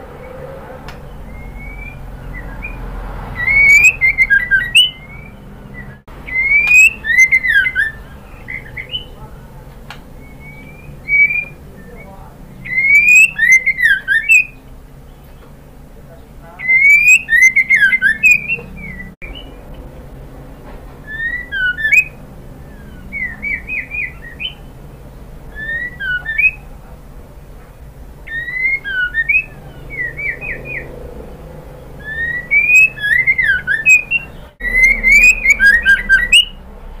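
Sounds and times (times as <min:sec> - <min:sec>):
bird whistling calls: 0:00.2 - 0:09.4, 0:10.1 - 0:15.5, 0:16.6 - 0:19.6, 0:21.0 - 0:24.7, 0:25.5 - 0:26.8, 0:28.3 - 0:36.6.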